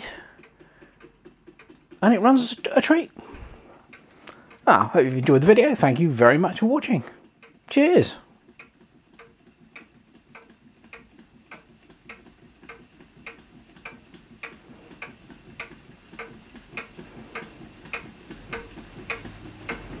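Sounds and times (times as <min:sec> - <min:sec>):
engine clicking mechanically: 0:00.0 - 0:03.2, 0:03.9 - 0:20.0.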